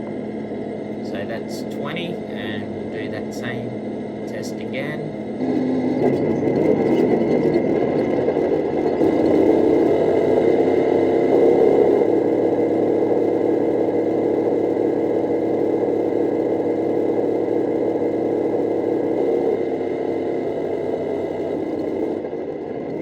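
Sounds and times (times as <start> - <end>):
distorted tank engine from speaker: 0.0 - 23.0.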